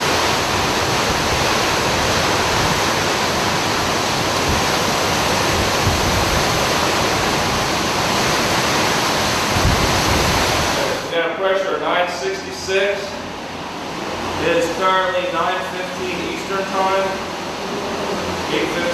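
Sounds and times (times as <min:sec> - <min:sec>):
hurricane wind: 0:00.0 - 0:18.9
rain blowing hard: 0:00.0 - 0:18.9.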